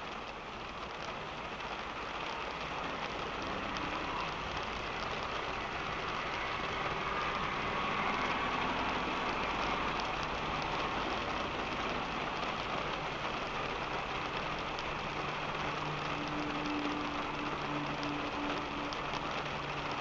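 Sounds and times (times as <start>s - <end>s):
rain hissing on car: 0.0s - 20.0s
raindrop ticks: 0.0s - 20.0s
road and engine hum: 0.1s - 20.0s.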